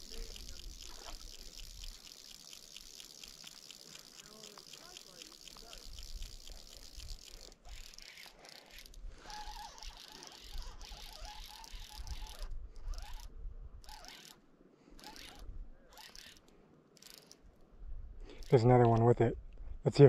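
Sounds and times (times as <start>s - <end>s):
fly reel drag ratcheting: 0.0s - 17.6s, 18.2s - 19.0s.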